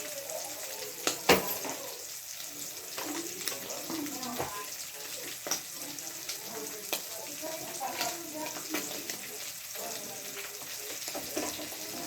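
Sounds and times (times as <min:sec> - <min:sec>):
faint voice: 0:00.0 - 0:12.0
water running from a tap: 0:00.0 - 0:12.0.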